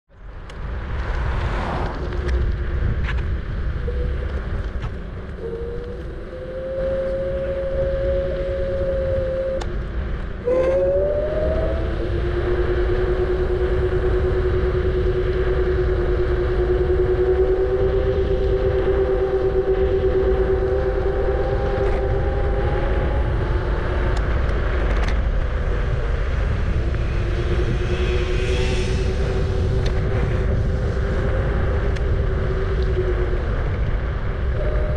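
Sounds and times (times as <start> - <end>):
wind rumble on microphone: 0.1 - 34.9
electric scooter motor whining: 3.2 - 34.9.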